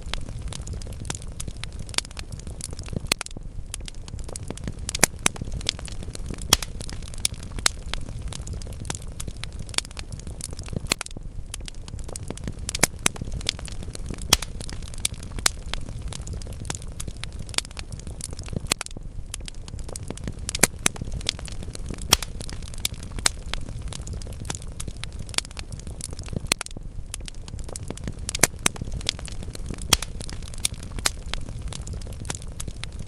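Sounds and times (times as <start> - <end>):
logs crackling and popping: 0.0 - 33.0
low rumble of flame: 0.0 - 33.0.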